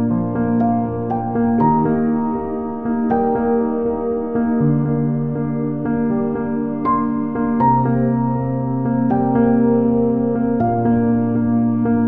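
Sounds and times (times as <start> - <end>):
soft ambient music: 0.0 - 12.0.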